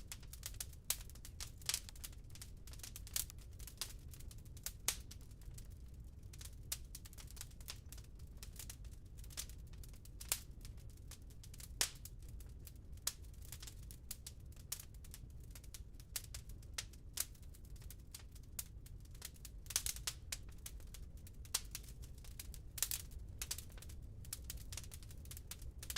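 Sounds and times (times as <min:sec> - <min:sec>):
wood fire crackling and popping: 0:00.0 - 0:25.9.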